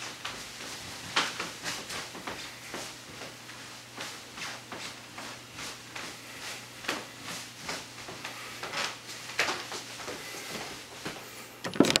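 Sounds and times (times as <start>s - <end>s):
clothing rustle: 0.0s - 11.4s
faint steady hum: 0.0s - 11.9s
shuffling footsteps: 0.0s - 12.0s.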